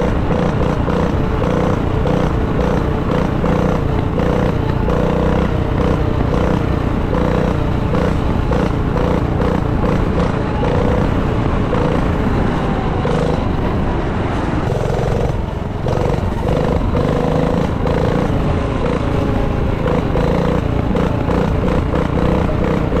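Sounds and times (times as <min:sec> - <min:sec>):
small minibike engine running: 0:00.0 - 0:13.7, 0:14.6 - 0:23.0.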